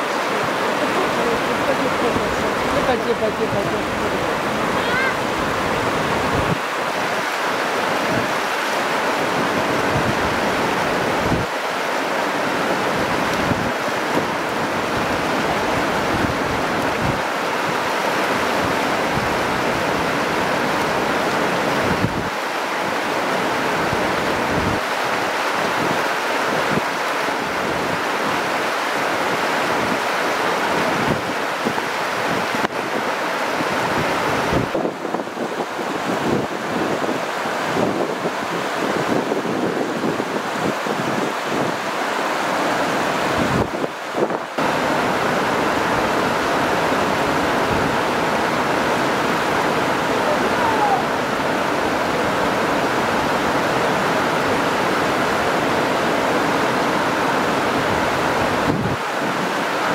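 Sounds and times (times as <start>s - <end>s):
river water rushing over weir: 0.0s - 59.9s
wind buffeting microphone: 0.1s - 8.6s, 9.2s - 11.6s, 12.6s - 28.5s, 30.7s - 59.9s.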